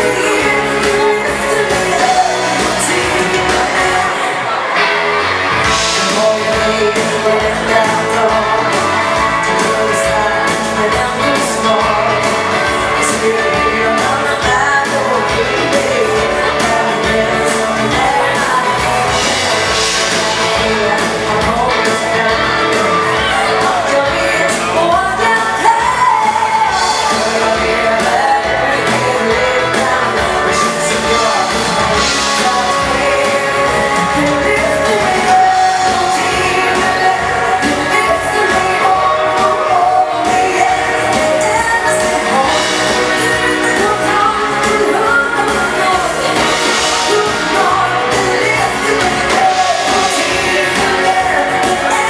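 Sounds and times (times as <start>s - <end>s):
band playing upbeat swing: 0.0s - 52.0s
man singing: 0.0s - 52.0s.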